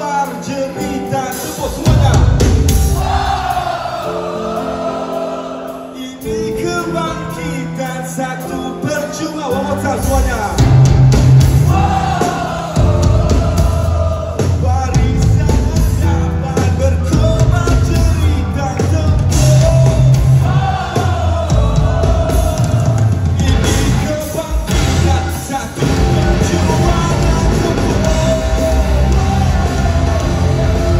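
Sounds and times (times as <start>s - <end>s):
live rock band playing: 0.0s - 30.9s
person singing lead vocals: 0.0s - 30.9s.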